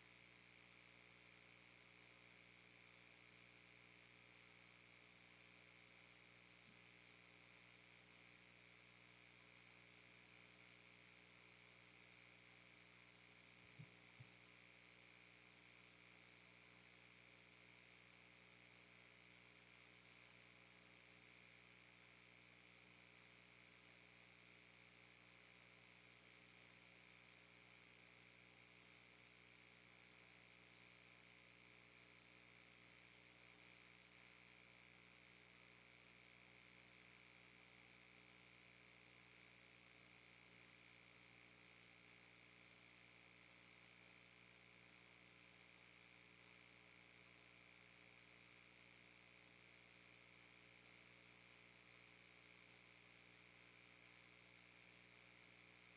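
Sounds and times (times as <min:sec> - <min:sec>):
faint electrical hum and hiss: 0:00.0 - 0:55.9.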